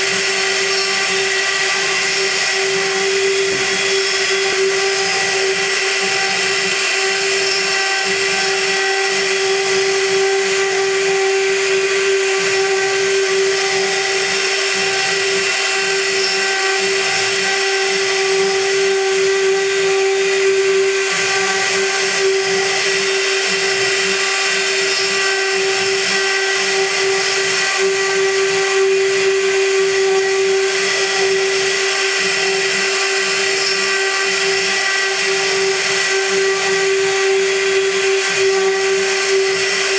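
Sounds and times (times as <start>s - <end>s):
metal cutting hiss: 0.0s - 39.9s
milling spindle whine: 0.0s - 39.9s.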